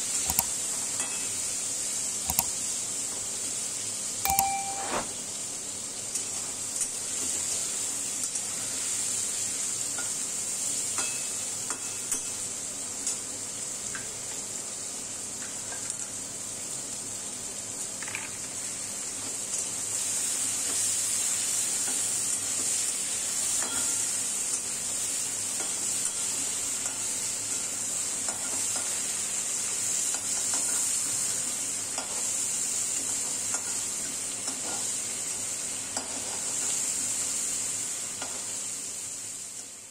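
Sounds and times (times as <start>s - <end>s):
prawns sizzling in a wok: 0.0s - 39.9s.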